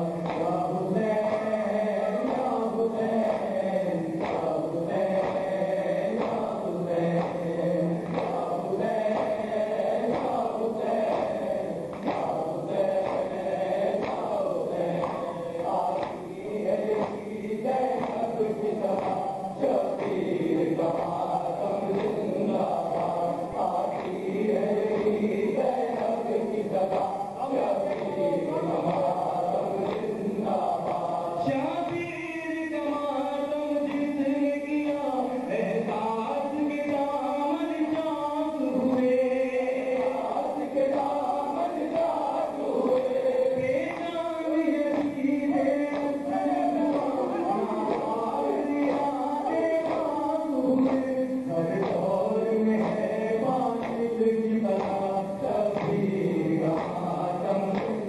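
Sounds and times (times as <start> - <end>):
men chanting in chorus: 0.0 - 58.0.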